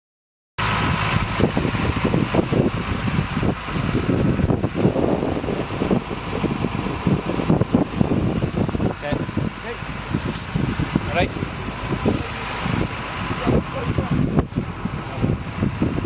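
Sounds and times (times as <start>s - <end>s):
truck engine idling: 0.6s - 16.0s.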